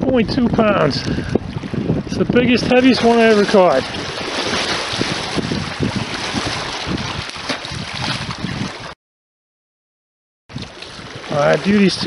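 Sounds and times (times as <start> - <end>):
wind buffeting microphone: 0.0 - 9.0, 10.5 - 12.0.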